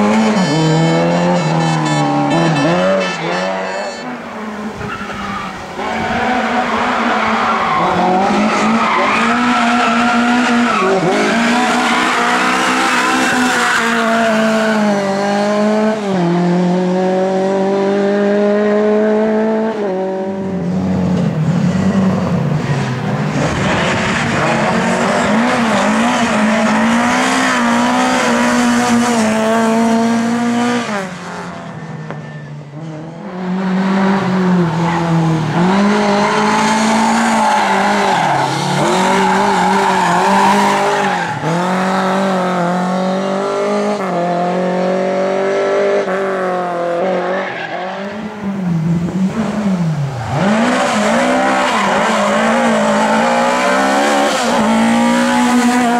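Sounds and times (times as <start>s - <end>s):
race car engine at full throttle: 0.0s - 55.9s.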